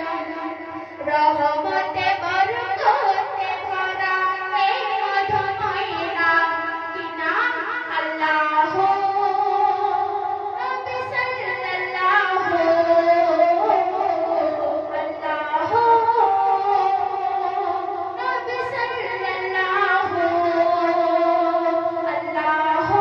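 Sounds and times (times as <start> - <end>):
woman singing into microphone: 0.0 - 23.0.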